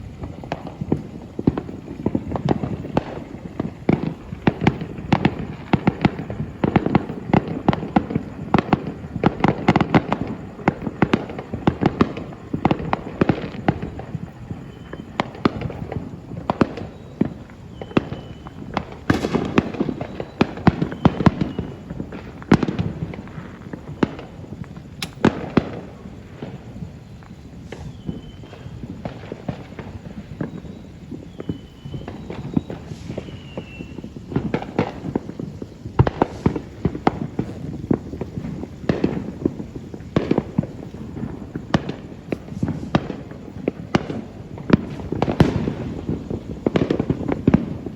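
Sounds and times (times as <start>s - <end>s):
firework whistles: 0.0s - 47.9s
fireworks bangs and crackles: 0.0s - 47.9s.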